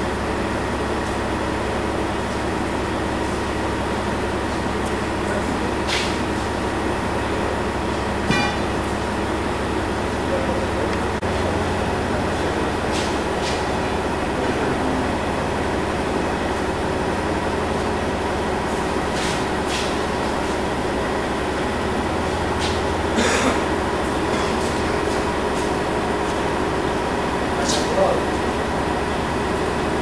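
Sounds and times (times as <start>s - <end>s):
steady machine drone: 0.0s - 30.0s.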